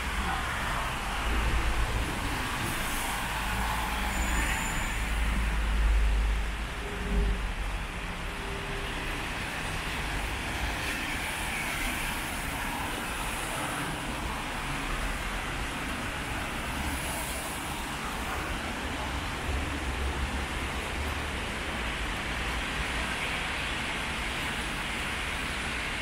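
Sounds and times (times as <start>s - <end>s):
traffic on wet streets: 0.0s - 26.0s.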